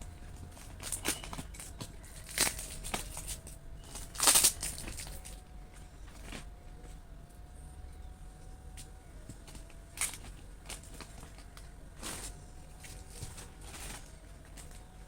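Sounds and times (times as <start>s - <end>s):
packaging rustling and crinkling: 0.0s - 7.0s, 8.4s - 15.0s.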